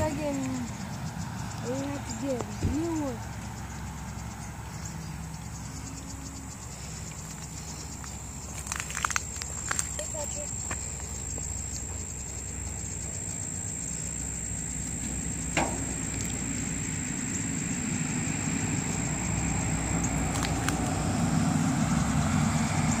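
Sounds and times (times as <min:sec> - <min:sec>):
road vehicle rumbling: 0:00.0 - 0:23.0.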